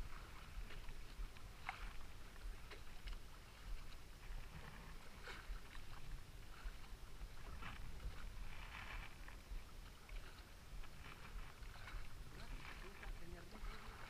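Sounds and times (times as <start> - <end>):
boat engine rumble: 0.0 - 14.0
water splashing: 0.0 - 14.0.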